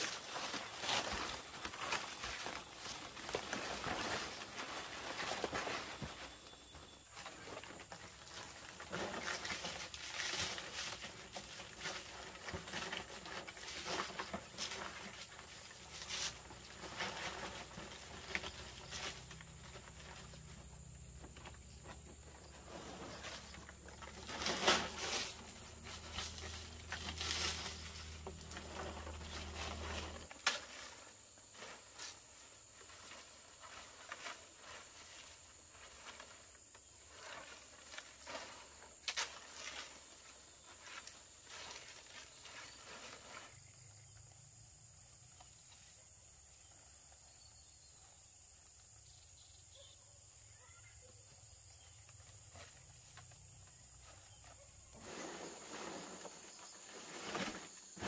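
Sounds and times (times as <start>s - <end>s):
palm leaves rustling and crackling: 0.0s - 44.2s, 51.8s - 58.0s.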